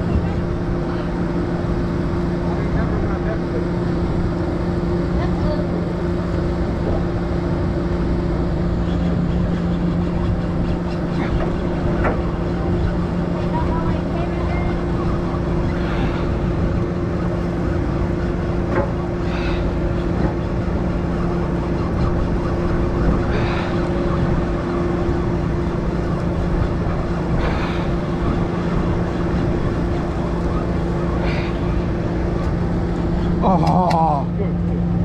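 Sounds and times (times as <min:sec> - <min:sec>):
boat engine humming: 0:00.0 - 0:35.0
water and wind wash: 0:00.0 - 0:35.0.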